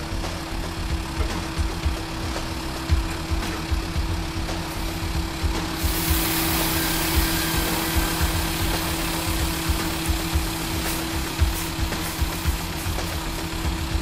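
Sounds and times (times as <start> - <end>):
engine idling with knocks: 0.0 - 14.0
liquid spraying hiss: 1.1 - 14.0.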